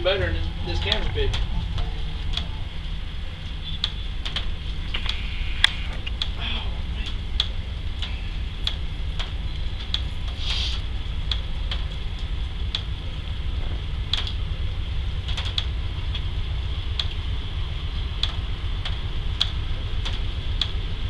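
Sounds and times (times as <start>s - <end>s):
regular ticking: 0.0s - 21.0s
steady low rumble: 0.0s - 21.0s.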